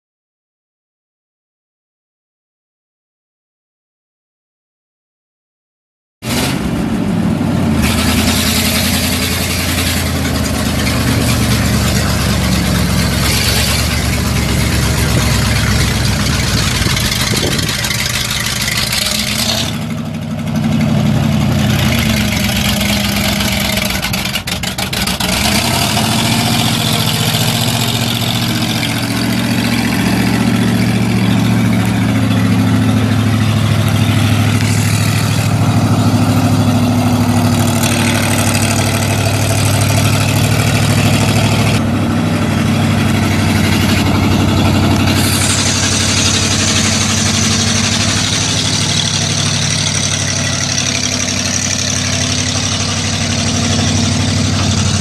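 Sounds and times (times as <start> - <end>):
truck engine running: 6.3 - 55.0.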